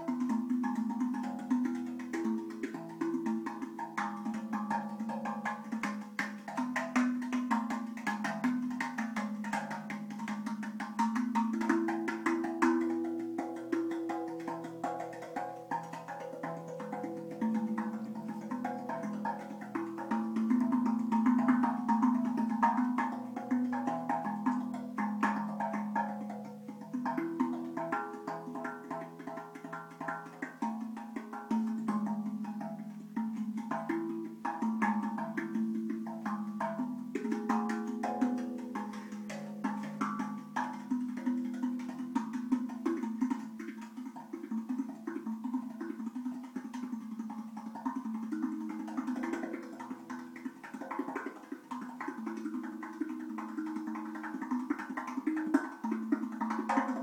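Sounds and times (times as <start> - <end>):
handpan played by hand: 0.0 - 57.0.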